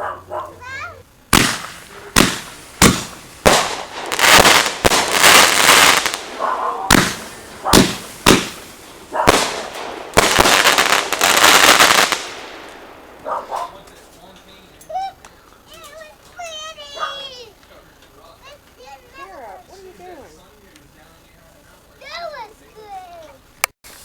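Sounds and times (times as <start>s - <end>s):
fireworks bangs: 0.3s - 20.6s
fireworks crackling: 0.3s - 24.0s.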